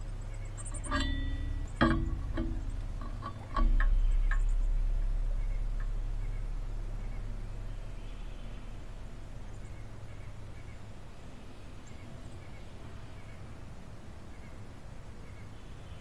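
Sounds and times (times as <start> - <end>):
faint bird chirps: 0.0 - 16.0
low steady rumble: 0.0 - 16.0.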